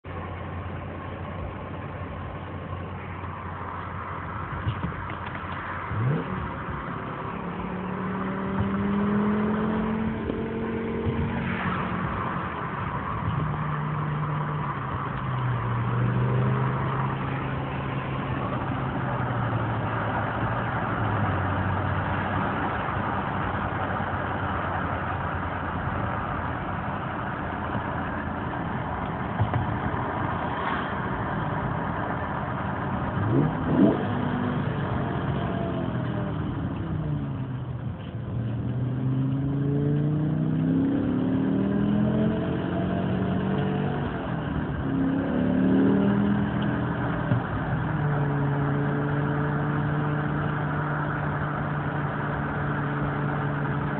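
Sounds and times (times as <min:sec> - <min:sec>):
road noise: 0:00.0 - 0:53.9
car engine revving: 0:03.0 - 0:53.9.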